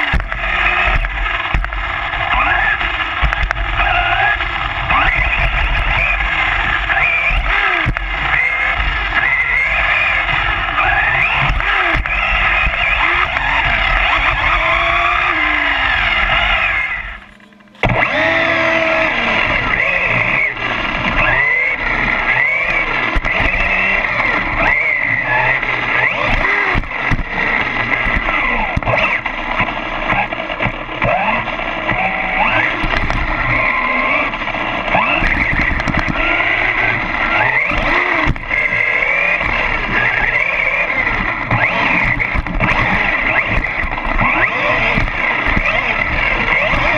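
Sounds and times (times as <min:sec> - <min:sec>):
electric rc trucks motors whining: 0:00.0 - 0:46.9.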